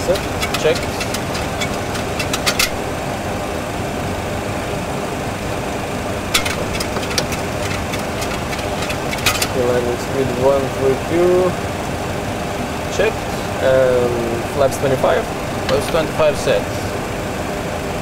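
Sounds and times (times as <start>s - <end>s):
rushing cockpit engine noise: 0.0s - 18.0s.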